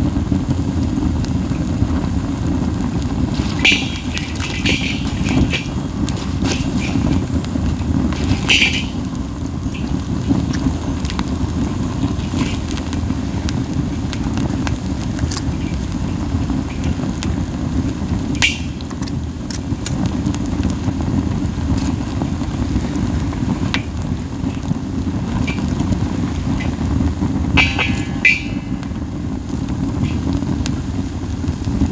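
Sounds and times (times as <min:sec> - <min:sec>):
fire crackling pops: 0:00.0 - 0:31.9
fire roaring in wind: 0:00.0 - 0:31.9.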